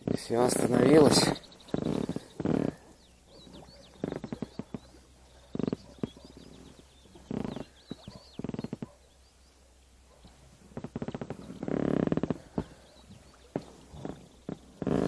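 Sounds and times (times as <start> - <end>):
pulsed croaking calls: 0.0 - 9.0, 10.7 - 15.0
small bird chirping: 0.1 - 15.0.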